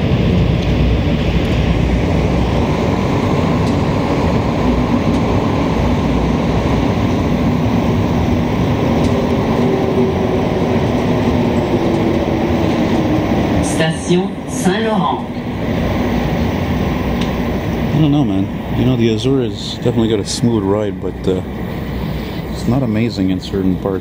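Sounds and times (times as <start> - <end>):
metro train rumbling in tunnel: 0.0 - 24.0.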